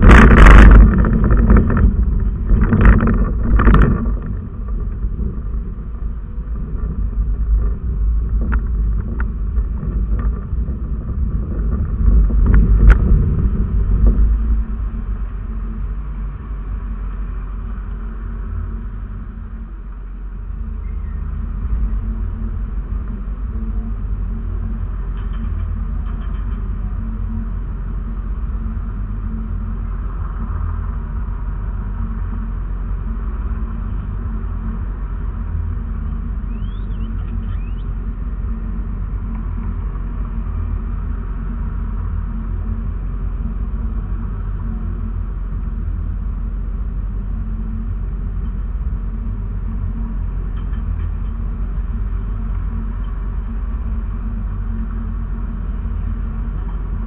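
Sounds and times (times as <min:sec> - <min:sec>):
car idling rumble: 0:00.0 - 0:57.0.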